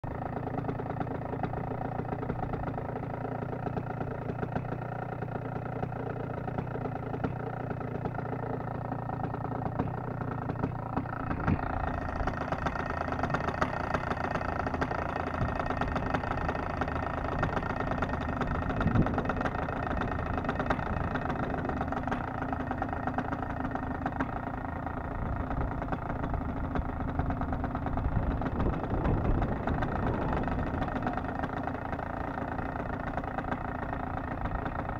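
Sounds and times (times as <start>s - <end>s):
paramotor engine idling: 0.0s - 34.9s.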